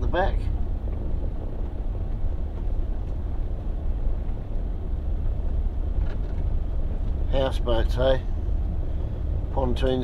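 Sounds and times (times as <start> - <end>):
engine and tyres rumbling: 0.0 - 10.0.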